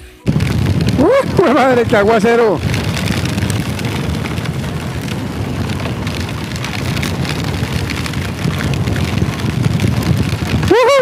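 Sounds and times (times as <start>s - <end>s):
raindrops ticking: 0.2s - 11.0s
rush of riding wind: 0.2s - 11.0s.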